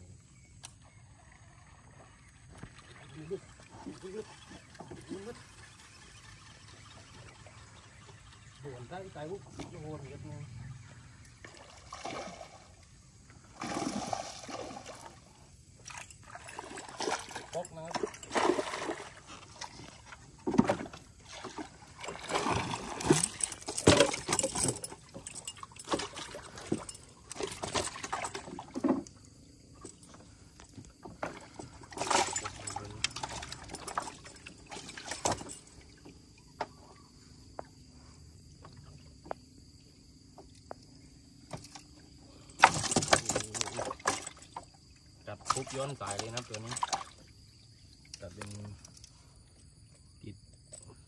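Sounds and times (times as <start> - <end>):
water splashing around boat: 0.9 - 39.3, 40.4 - 49.0.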